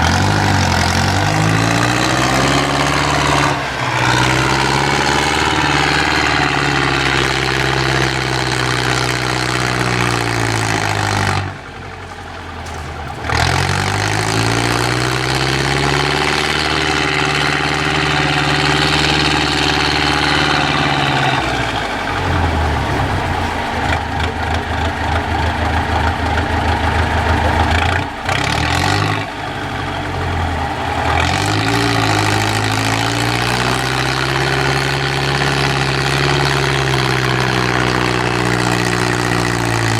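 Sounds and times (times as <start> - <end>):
truck diesel engine revving: 0.0 - 39.9.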